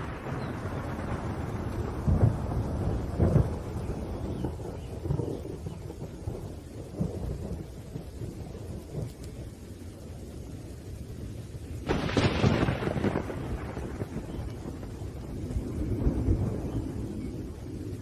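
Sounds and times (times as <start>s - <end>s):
sharp crack of thunder: 0.0s - 9.6s, 11.8s - 18.0s
steady rain: 0.0s - 18.0s
thunder rumbling: 0.0s - 18.0s.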